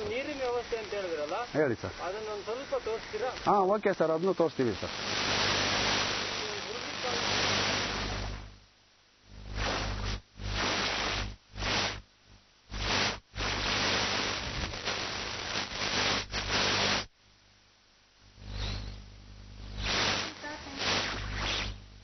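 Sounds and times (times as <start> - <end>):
loud static-like hiss: 0.0 - 22.0.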